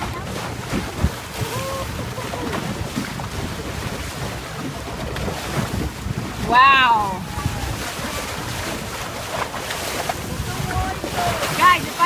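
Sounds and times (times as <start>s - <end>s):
water splashing around boat: 0.0s - 12.0s
wind buffeting microphone: 0.0s - 12.0s.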